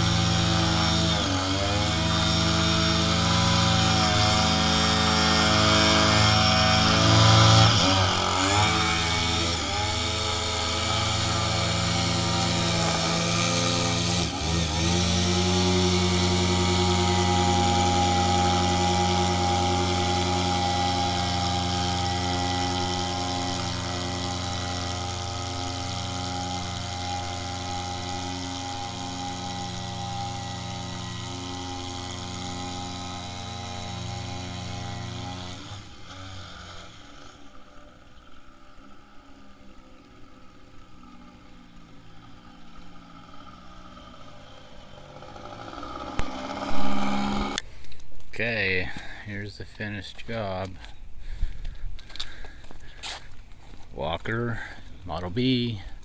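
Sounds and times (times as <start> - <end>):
string trimmer running at high revs: 0.0 - 48.0, 50.2 - 56.0.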